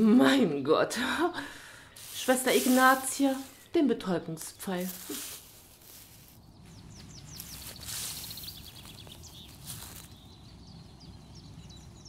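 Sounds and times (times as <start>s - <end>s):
songbird chirping: 1.9s - 12.0s.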